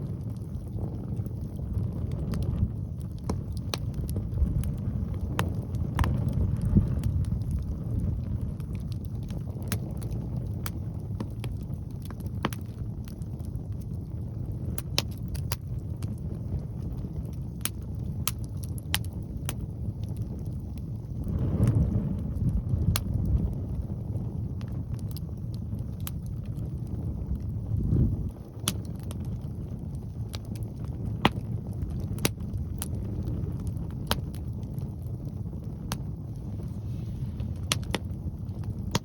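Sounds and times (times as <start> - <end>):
bonfire crackling and popping: 0.0 - 39.0
wind buffeting microphone: 0.0 - 39.0.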